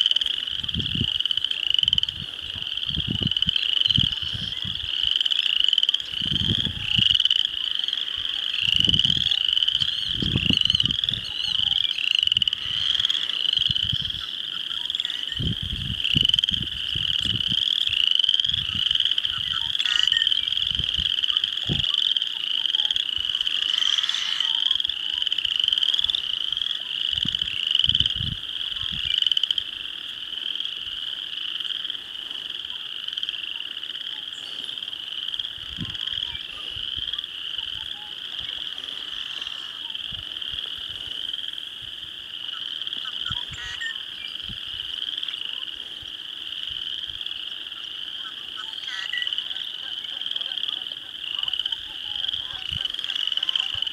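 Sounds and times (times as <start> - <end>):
frogs trilling: 0.0 - 53.9.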